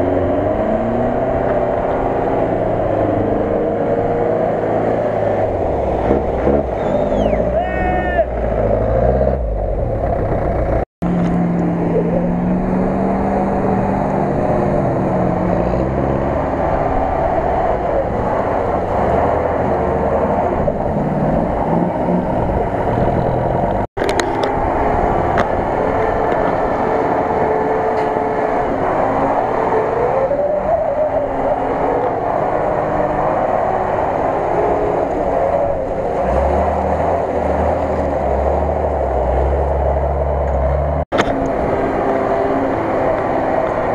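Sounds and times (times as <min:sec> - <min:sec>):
off-road engines revving: 0:00.0 - 0:43.9.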